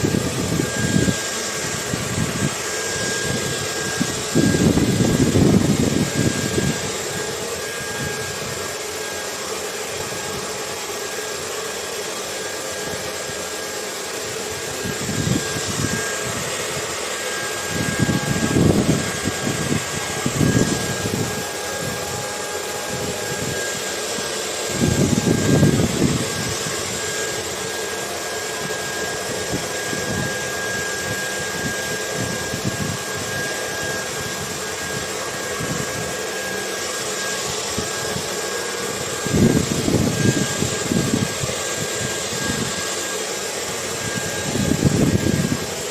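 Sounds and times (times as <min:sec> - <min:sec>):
wind gusts: 0:00.0 - 0:11.1, 0:12.9 - 0:36.3, 0:37.3 - 0:45.9
hair dryer running: 0:00.0 - 0:45.9.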